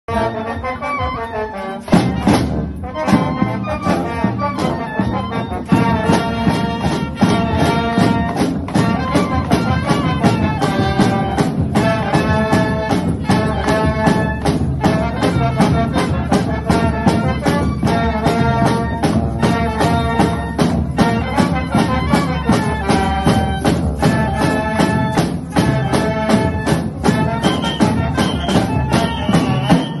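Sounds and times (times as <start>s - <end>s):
snare drums: 0.1s - 30.0s
trombones and trumpets playing tune: 0.1s - 30.0s.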